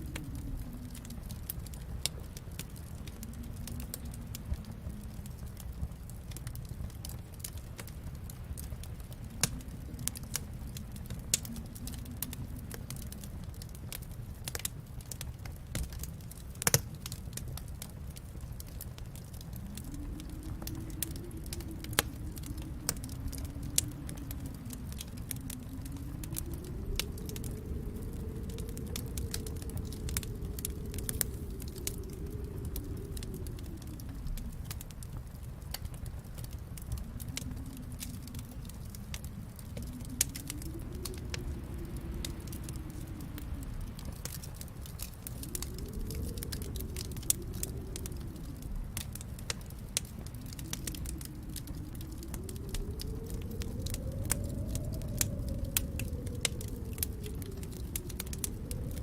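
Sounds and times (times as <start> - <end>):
low rumbling wind: 0.0 - 59.0
wood fire crackling: 0.0 - 59.0.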